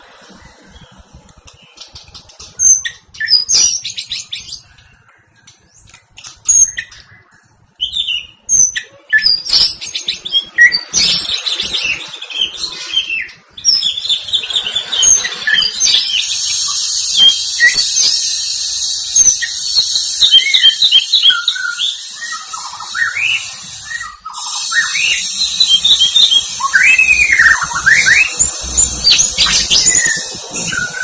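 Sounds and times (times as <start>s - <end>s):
bird singing whistled notes and trills: 0.0s - 31.0s.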